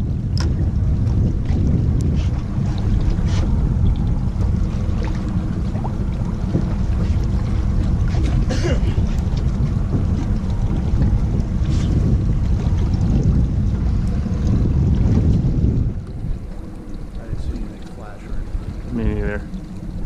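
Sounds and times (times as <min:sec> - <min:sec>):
boat engine rumble: 0:00.0 - 0:20.0
wind buffeting microphone: 0:00.0 - 0:20.0.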